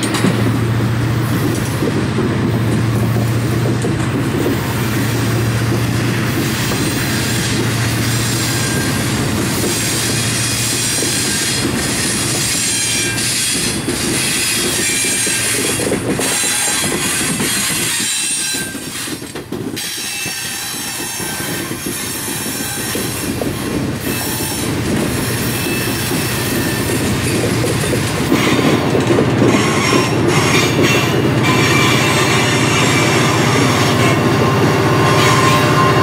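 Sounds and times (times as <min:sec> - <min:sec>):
wheels clicking over rail joints: 0:00.0 - 0:33.3
freight train rumble: 0:00.0 - 0:36.0
steel wheels squealing: 0:04.6 - 0:19.2, 0:19.8 - 0:36.0.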